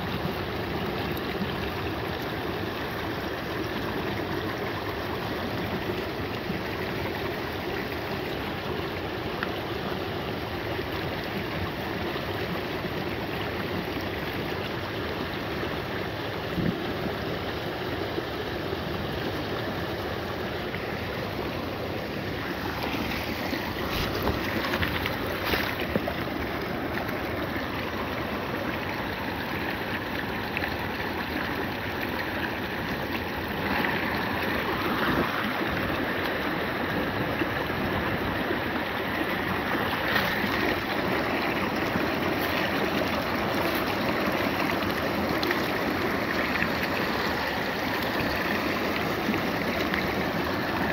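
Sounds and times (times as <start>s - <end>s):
stream rushing over rocks: 0.0s - 50.9s.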